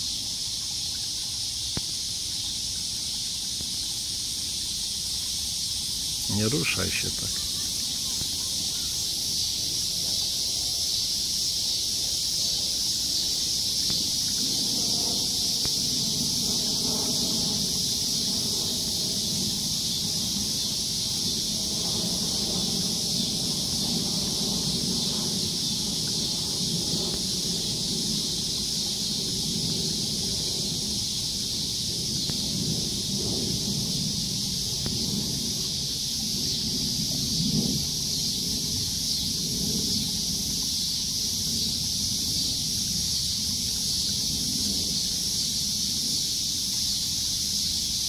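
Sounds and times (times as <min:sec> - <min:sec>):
high-pitched background hiss: 0:00.0 - 0:48.0.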